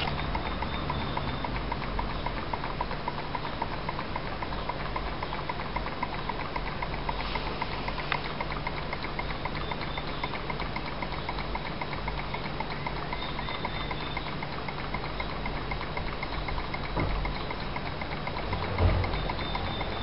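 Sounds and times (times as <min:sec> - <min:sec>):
stirling engine ticking: 0:00.0 - 0:20.0.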